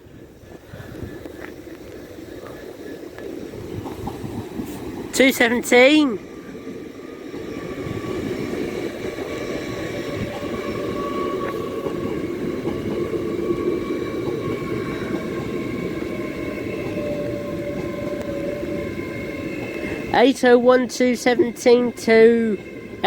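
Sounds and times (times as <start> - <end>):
electric train rail noise: 0.0 - 23.0.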